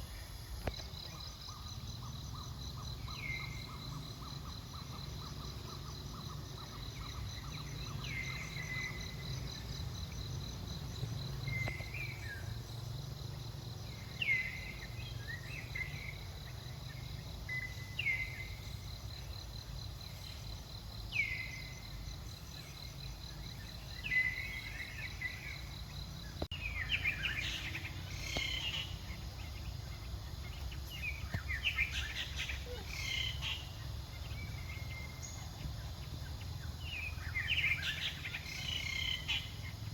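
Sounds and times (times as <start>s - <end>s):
bird chirping: 0.0s - 39.9s
insect trill: 0.0s - 39.9s.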